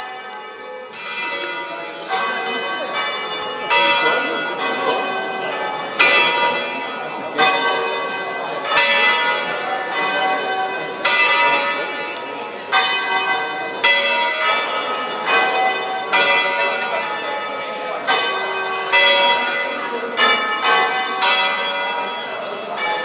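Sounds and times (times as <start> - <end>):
church bells pealing: 0.0 - 23.0.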